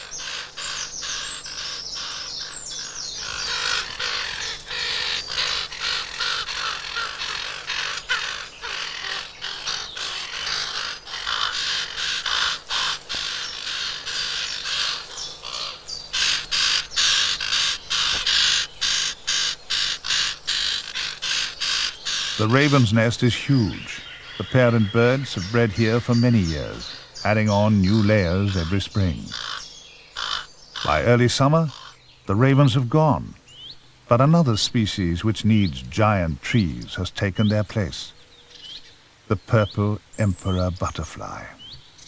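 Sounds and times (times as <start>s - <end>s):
raven nestlings begging calls: 0.0s - 42.0s.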